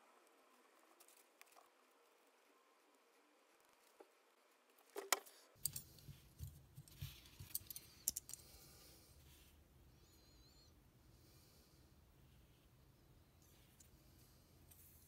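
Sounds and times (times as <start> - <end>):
faint low background noise: 0.0 - 15.0.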